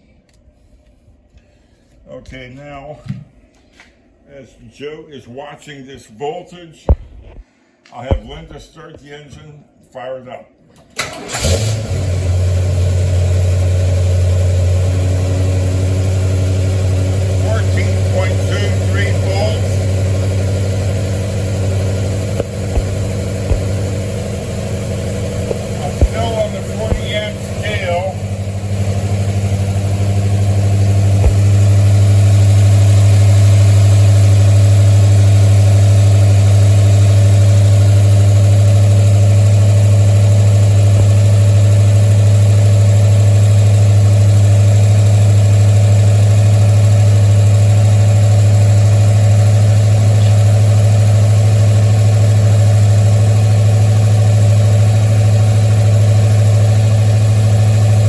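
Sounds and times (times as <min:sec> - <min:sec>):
car engine idling: 0:11.0 - 0:58.0.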